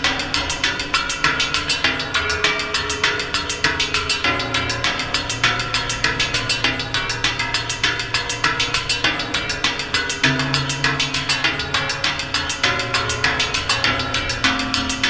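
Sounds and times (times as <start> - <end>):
drumsticks striking ringing steel plates: 0.0 - 15.0.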